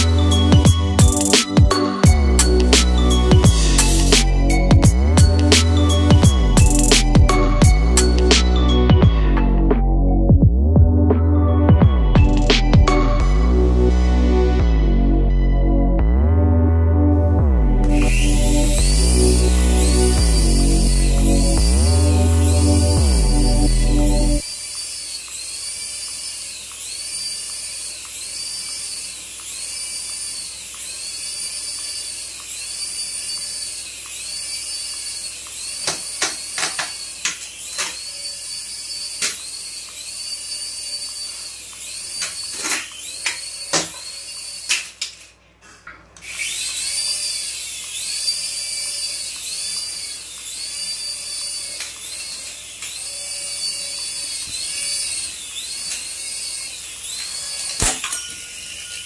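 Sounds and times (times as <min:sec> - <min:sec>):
toy helicopter rotor whining: 0:00.0 - 0:09.1, 0:17.8 - 0:45.4, 0:46.2 - 0:59.0.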